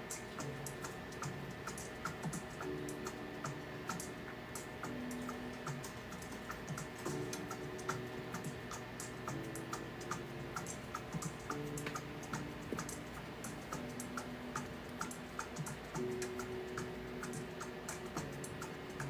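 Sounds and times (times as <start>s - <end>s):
background music with ticking beat: 0.0s - 19.0s.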